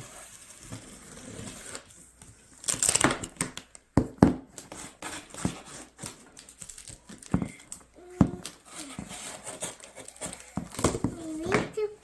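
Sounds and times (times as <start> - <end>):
cardboard packaging rustling: 0.0 - 3.8, 4.5 - 12.0.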